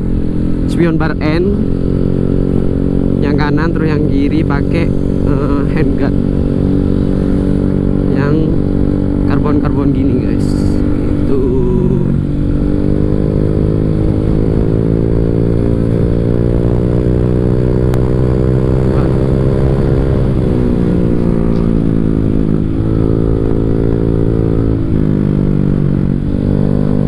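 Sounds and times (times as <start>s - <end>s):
scooter engine running: 0.0s - 27.0s.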